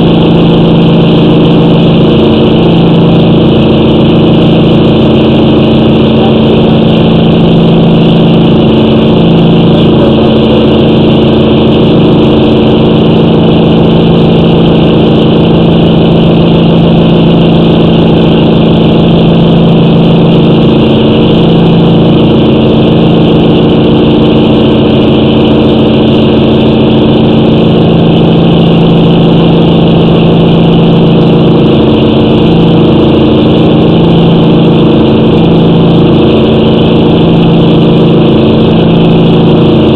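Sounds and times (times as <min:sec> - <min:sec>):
engine-like drone: 0:00.0 - 0:39.9.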